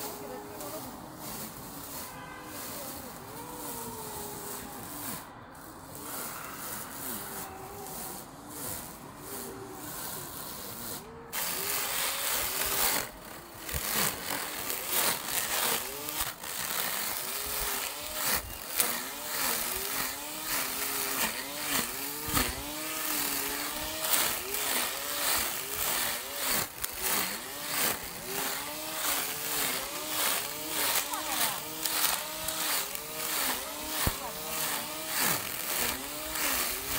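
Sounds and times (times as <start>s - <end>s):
string trimmer cutting grass: 0.0s - 36.9s.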